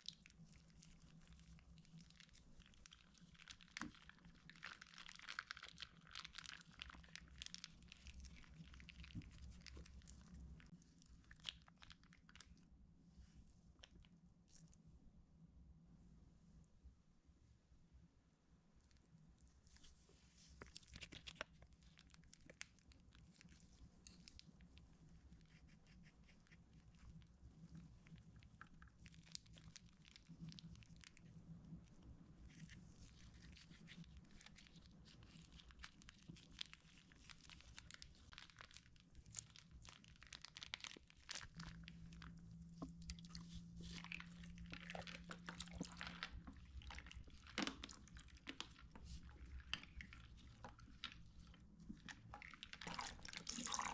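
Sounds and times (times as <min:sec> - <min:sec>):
sticky slime crackles: 0:00.0 - 0:12.7, 0:19.7 - 0:53.9.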